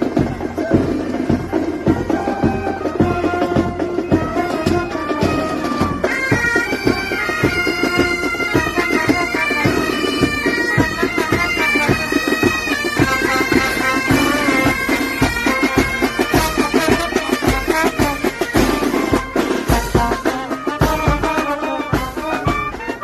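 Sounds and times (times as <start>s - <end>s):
bagpipes playing melody: 0.0s - 23.0s
drum strokes: 0.0s - 23.0s.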